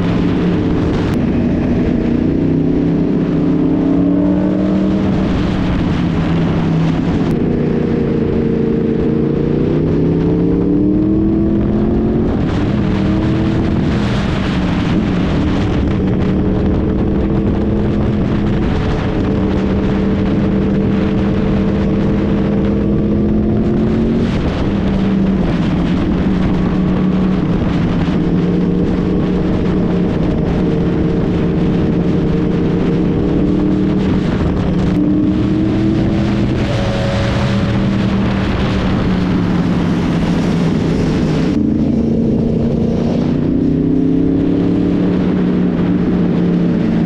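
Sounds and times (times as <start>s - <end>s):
motorcycle engine cruising: 0.0s - 47.0s
wind rush on microphone: 0.0s - 47.0s.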